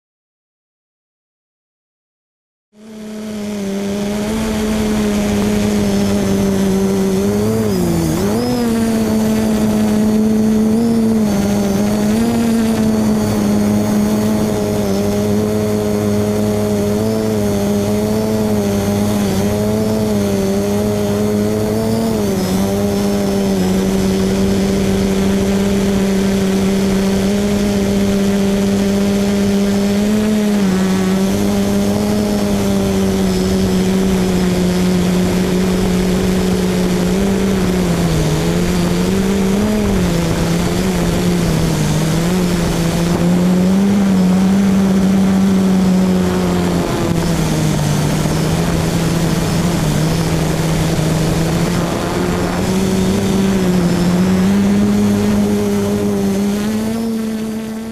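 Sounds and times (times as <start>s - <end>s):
drone propellers droning: 2.8s - 57.9s.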